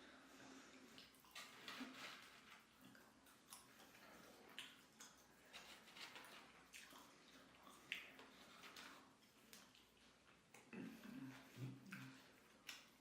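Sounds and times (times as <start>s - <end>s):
chewing with wet mouth clicks: 0.9s - 1.8s, 2.4s - 13.0s.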